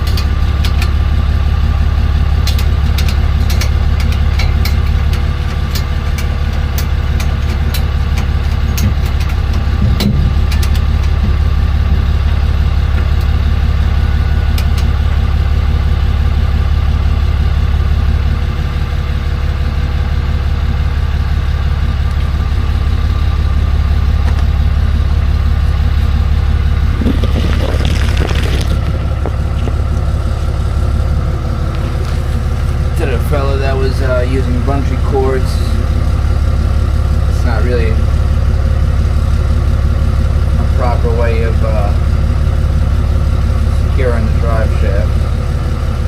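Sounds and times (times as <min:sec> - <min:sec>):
truck engine idling: 0:00.0 - 0:46.0.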